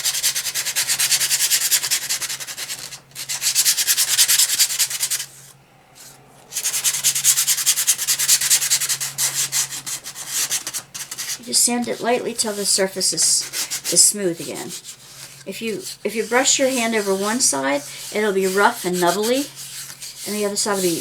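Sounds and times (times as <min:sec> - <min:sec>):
sandpaper rubbing on wood: 0:00.0 - 0:05.4, 0:06.6 - 0:21.0.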